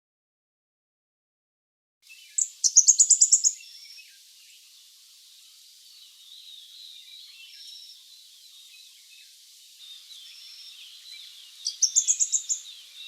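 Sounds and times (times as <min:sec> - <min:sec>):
faint background birdsong: 0:02.0 - 0:13.0.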